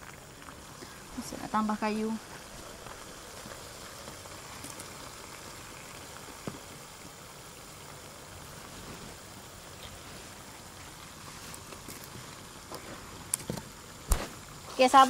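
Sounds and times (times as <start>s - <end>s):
paste simmering in oil: 0.0s - 15.0s.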